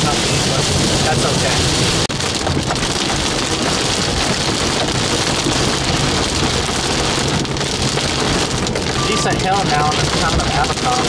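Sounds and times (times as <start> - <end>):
heavy rain hitting a car: 0.0 - 11.0
low vehicle hum: 0.0 - 11.0.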